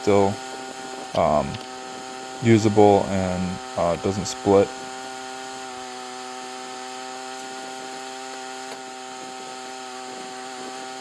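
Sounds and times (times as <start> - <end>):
sawmill cutting wood: 0.0 - 11.0.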